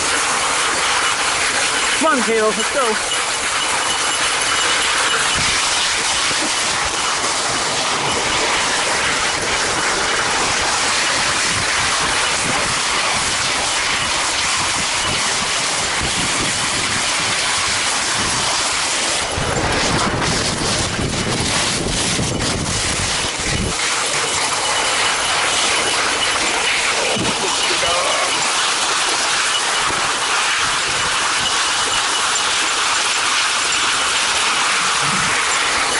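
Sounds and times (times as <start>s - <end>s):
sled rumbling and knocking: 0.0s - 35.9s
sled runners scraping over snow: 0.0s - 35.9s.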